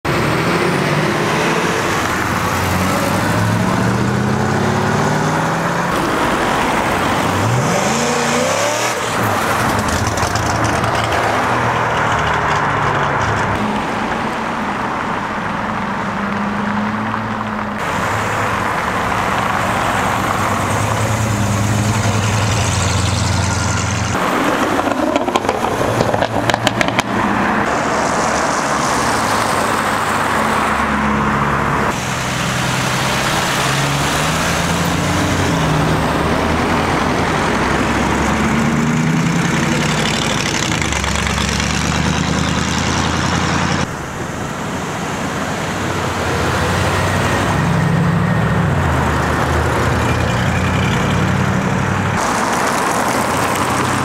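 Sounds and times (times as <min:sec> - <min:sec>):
car engines accelerating and revving: 0:00.0 - 0:54.0.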